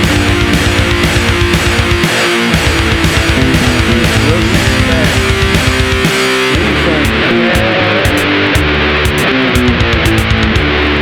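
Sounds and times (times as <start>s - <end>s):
bass guitar: 0.0s - 11.0s
drums: 0.0s - 11.0s
sliding lead guitar notes: 0.0s - 11.0s
strummed electric guitar chords: 0.0s - 11.0s.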